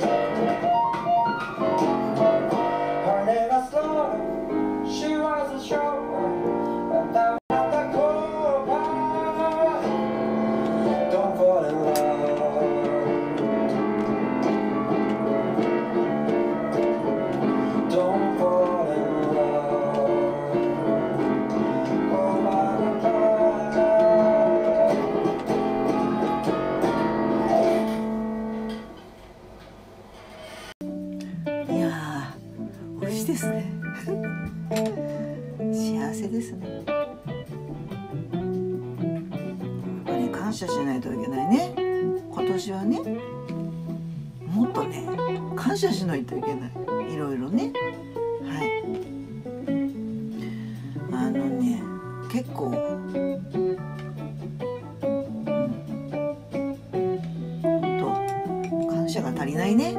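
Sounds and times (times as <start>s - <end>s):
background music with guitar and piano: 0.0s - 29.2s, 30.8s - 59.9s.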